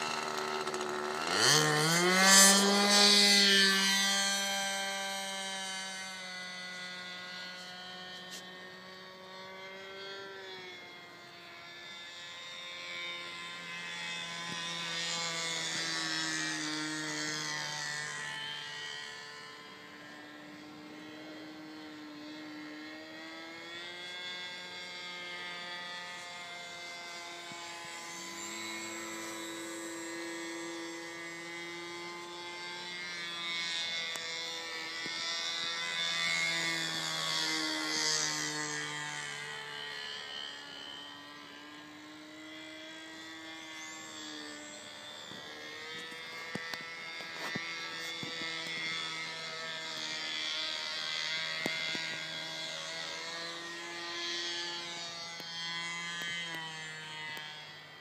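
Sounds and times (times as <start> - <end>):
model airplane engine: 0.0 - 58.0.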